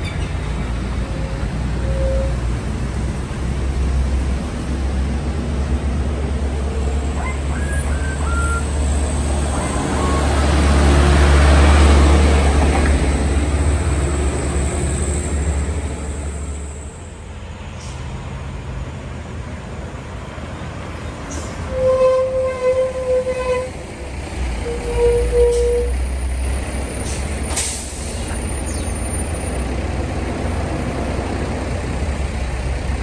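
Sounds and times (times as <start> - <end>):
diesel truck passing: 0.0 - 33.0.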